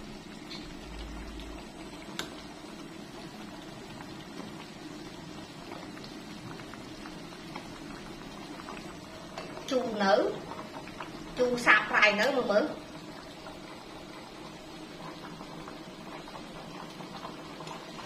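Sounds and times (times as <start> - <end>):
soup boiling with steady bubbling: 0.0 - 18.0.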